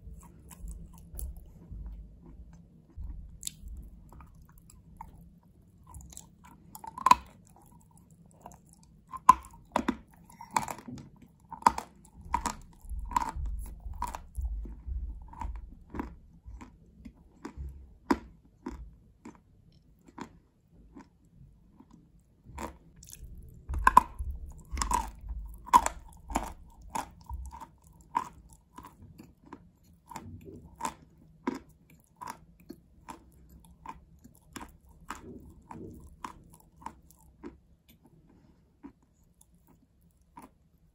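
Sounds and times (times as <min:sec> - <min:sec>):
crunching and chewing chalk: 0:00.0 - 0:40.9.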